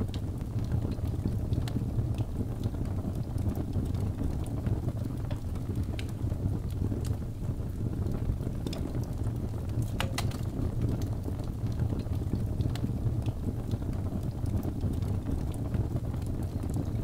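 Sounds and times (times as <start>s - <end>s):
fire crackles and pops: 0.0s - 17.0s
low rumble of fire: 0.0s - 17.0s.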